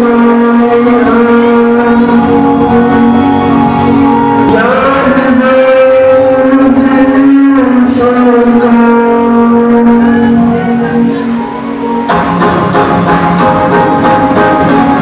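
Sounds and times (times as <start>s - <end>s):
instrumental accompaniment: 0.0s - 15.0s
person singing long notes: 0.0s - 15.0s.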